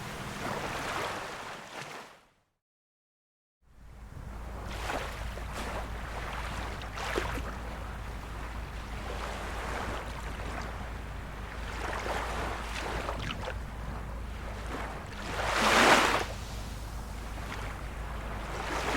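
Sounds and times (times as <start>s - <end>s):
small waves splashing: 0.0s - 2.2s, 3.8s - 18.9s.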